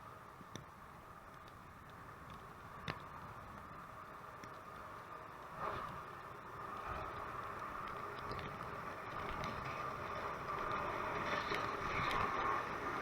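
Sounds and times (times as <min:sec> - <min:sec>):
traffic: 0:00.0 - 0:13.0.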